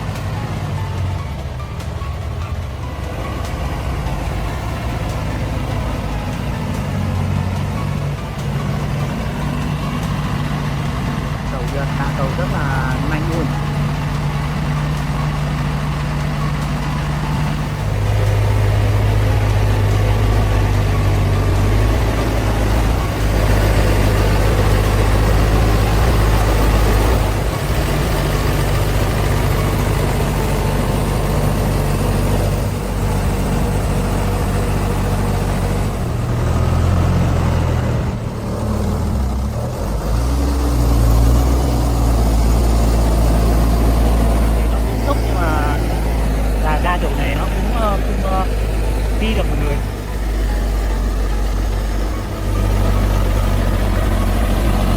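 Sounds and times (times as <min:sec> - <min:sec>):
truck diesel engine running hard: 0:00.0 - 0:54.9.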